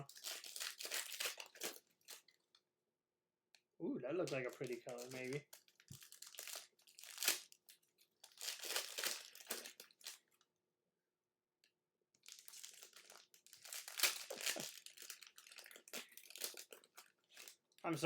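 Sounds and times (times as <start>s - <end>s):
plastic wrappers crinkling: 0.0s - 2.6s, 4.1s - 10.4s, 12.2s - 18.0s.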